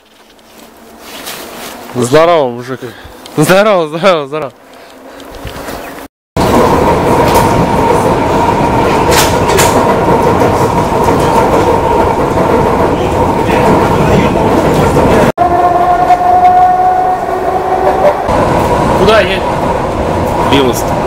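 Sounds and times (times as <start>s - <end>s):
train rumble and rattle: 0.0s - 21.0s.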